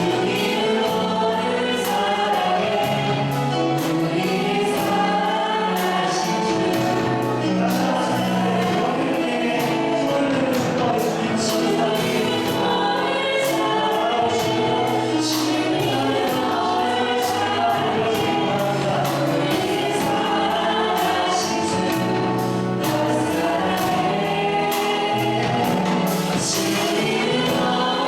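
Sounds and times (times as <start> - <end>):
congregation singing worship song: 0.0 - 28.0
instrumental accompaniment: 0.0 - 28.0.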